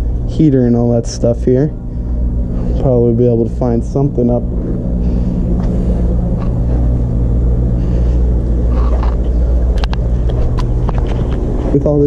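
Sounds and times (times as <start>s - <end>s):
low electrical hum of pumps: 0.0s - 12.0s.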